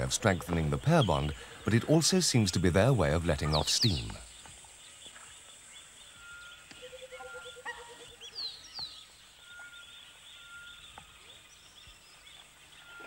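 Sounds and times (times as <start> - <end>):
bird calls: 0.0 - 13.0
high downward-sliding bird calls: 0.0 - 13.0.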